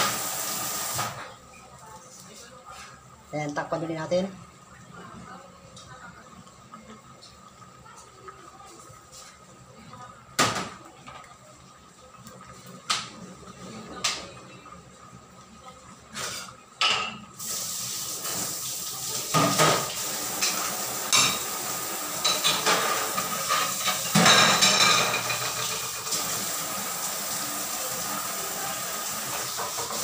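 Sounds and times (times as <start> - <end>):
sauce boiling and sizzling: 0.0 - 1.2, 3.0 - 30.0.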